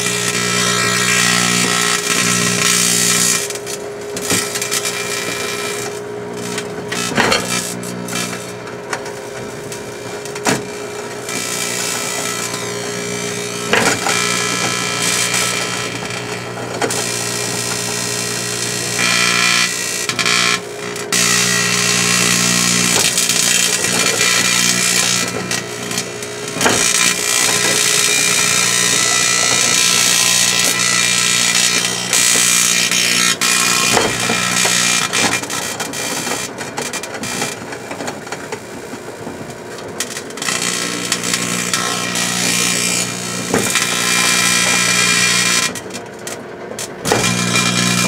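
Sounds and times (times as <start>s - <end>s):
sharp electric snaps: 0.0s - 8.6s, 9.8s - 36.4s, 40.0s - 45.9s, 46.8s - 48.0s
metal arcing with hissing crackle: 0.0s - 36.5s, 40.4s - 45.8s, 47.1s - 48.0s
microwave oven humming: 0.0s - 48.0s.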